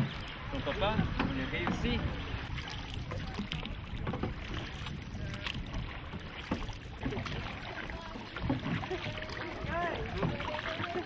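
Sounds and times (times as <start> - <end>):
paddle strokes: 0.0 - 11.0
water rushing and splashing: 0.0 - 11.0
wind rumbling on microphone: 0.0 - 11.0.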